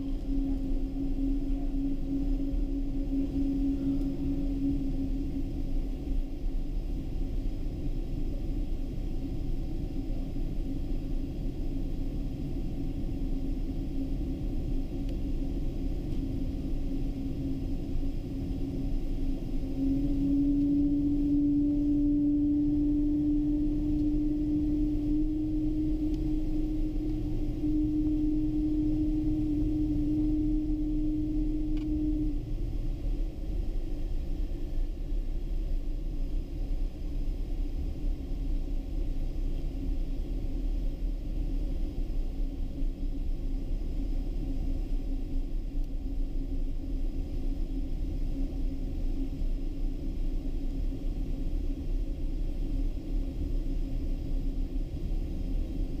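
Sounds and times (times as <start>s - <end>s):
airplane cabin low rumble: 0.0s - 56.0s
droning engine hum: 0.0s - 56.0s.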